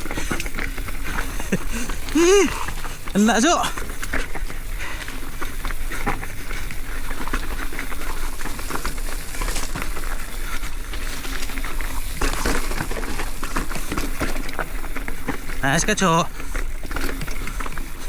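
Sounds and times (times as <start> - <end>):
bike clicks and rattles: 0.0 - 15.6, 16.3 - 18.0
bike tyres on loose dirt: 0.0 - 18.0.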